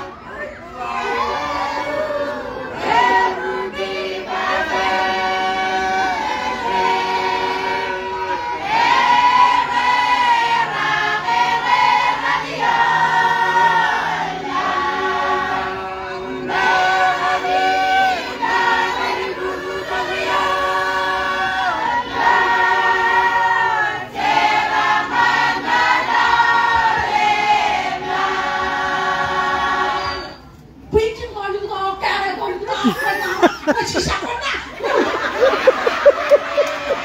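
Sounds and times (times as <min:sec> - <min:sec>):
mixed choir singing: 0:00.0 - 0:30.5, 0:34.8 - 0:37.0.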